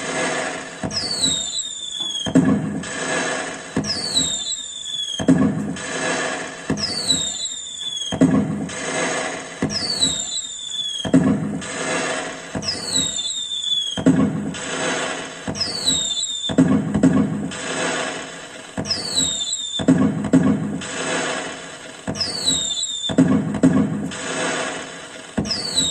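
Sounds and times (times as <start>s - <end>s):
firecracker bangs and crackle: 0.0s - 25.9s
firecracker whistle: 0.0s - 25.9s.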